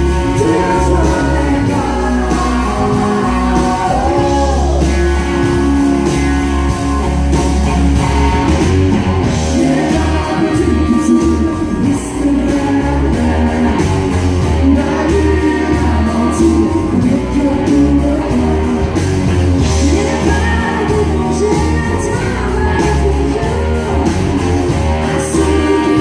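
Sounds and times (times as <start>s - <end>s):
person singing: 0.0s - 6.1s, 9.3s - 18.8s, 19.6s - 26.0s
country-rock band playing: 0.0s - 26.0s.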